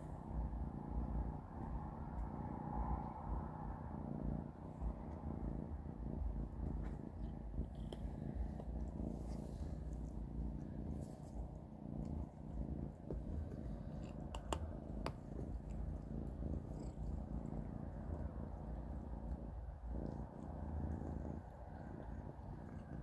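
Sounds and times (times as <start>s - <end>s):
kitten purring: 0.0s - 23.0s.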